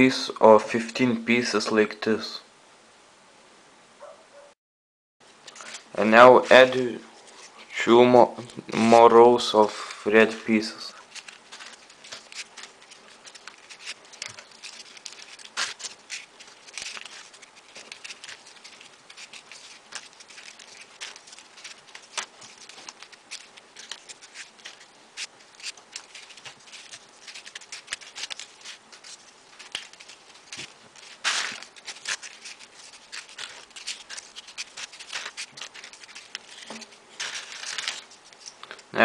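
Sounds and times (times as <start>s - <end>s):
paper clicks and rustles: 5.4s - 7.7s, 8.4s - 39.0s.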